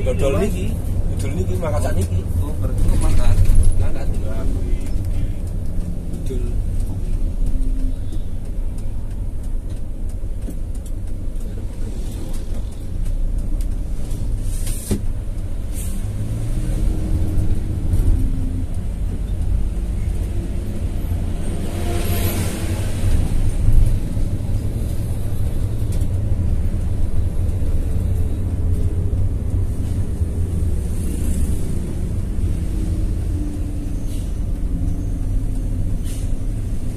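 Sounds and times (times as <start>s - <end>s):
bus engine and road rumble: 0.0s - 36.9s.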